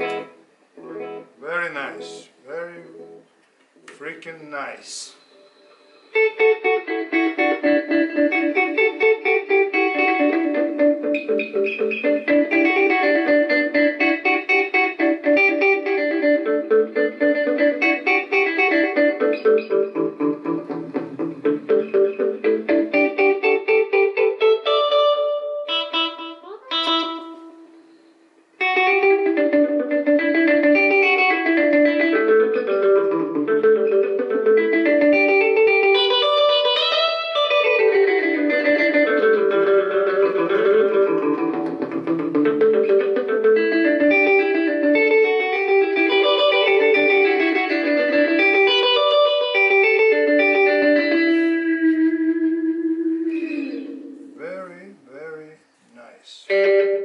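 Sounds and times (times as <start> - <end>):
electric guitar with delay: 0.0 - 3.2, 5.1 - 55.3, 56.5 - 57.0.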